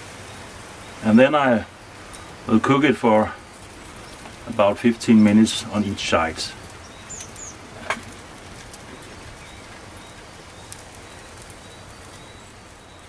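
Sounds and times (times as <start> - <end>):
fire crackles: 0.0 - 13.0
small wood fire hissing: 0.0 - 13.0.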